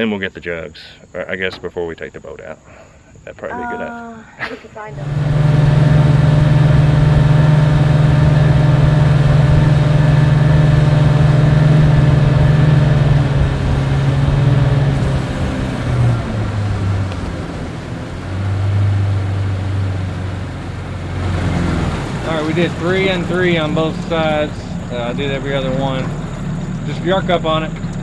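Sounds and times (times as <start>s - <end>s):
outboard motor running: 4.8s - 28.0s.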